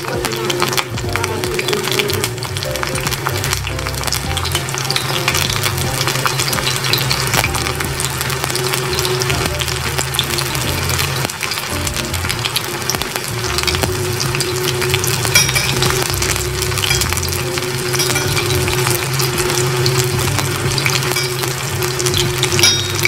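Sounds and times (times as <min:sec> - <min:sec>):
food deep-frying in oil: 0:00.0 - 0:23.0.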